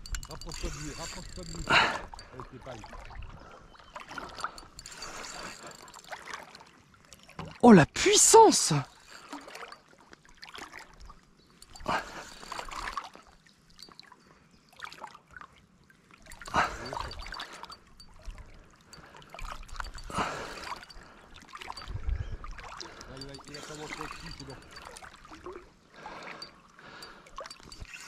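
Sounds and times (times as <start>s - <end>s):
water splashing and trickling: 0.0s - 28.0s.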